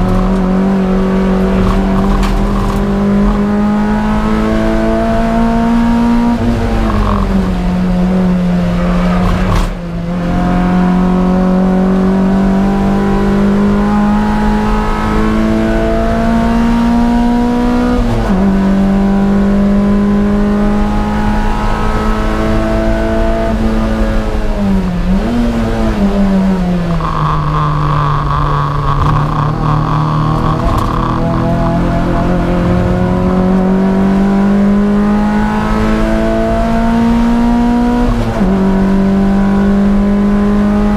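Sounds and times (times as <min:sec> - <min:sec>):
race car engine at full throttle: 0:00.0 - 0:40.9.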